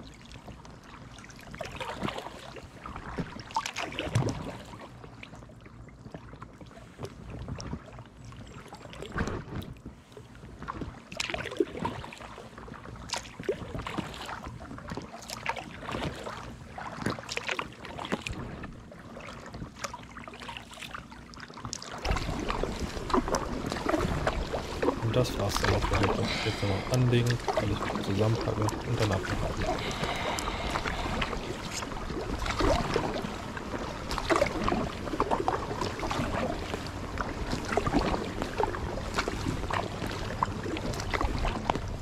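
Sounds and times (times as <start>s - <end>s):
kayak paddle splashing water: 0.0s - 5.2s, 10.0s - 42.0s.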